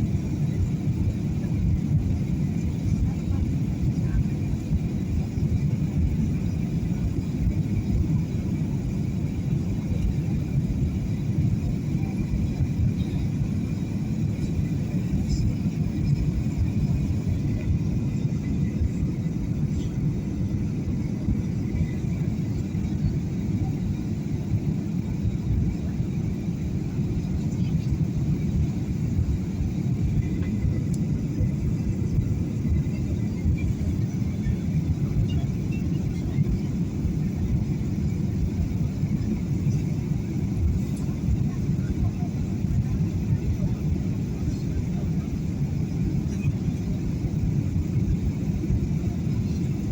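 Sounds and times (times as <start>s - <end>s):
airliner cabin engine rumble: 0.0s - 49.9s.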